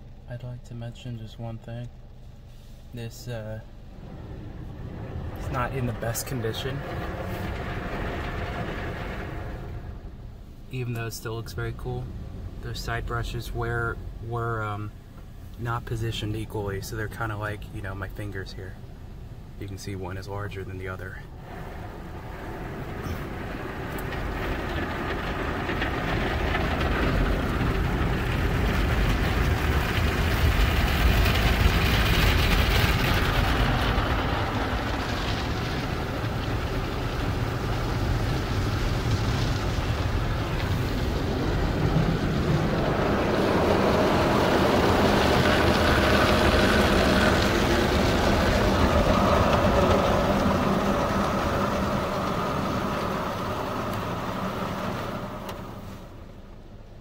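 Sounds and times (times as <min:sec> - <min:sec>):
water spraying on car: 0:02.2 - 0:57.0.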